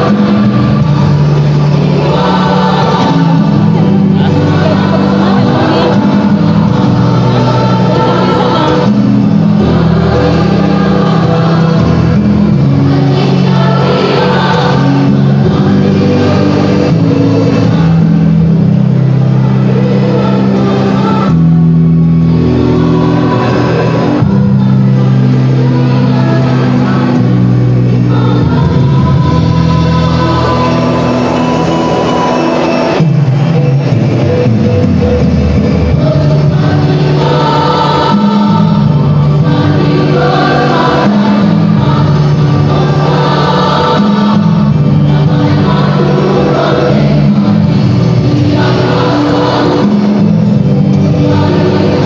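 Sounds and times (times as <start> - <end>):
choir singing low chords: 0.0 - 52.0.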